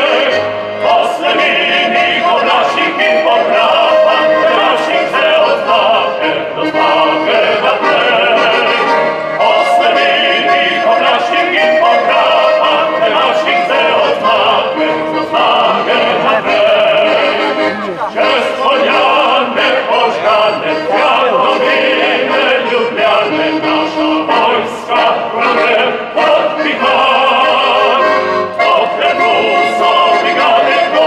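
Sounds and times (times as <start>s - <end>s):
accordion: 0.0s - 31.0s
male vocal group singing: 0.0s - 31.0s.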